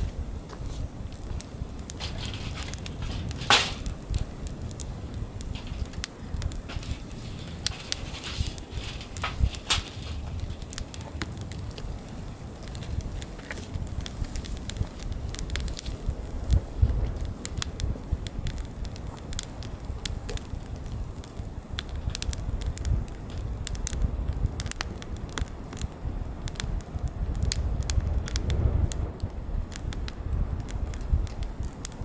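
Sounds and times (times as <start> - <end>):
low fire rumble: 0.0 - 32.0
wood fire crackling and popping: 0.0 - 32.0.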